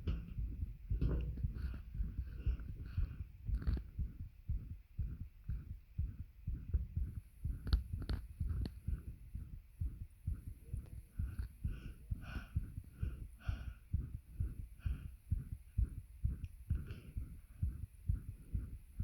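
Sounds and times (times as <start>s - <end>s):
heartbeat thumps: 0.0s - 19.0s.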